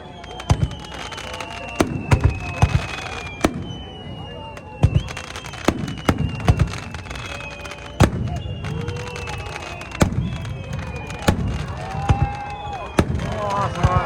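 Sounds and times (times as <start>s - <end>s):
fireworks shells booming: 0.1s - 14.0s.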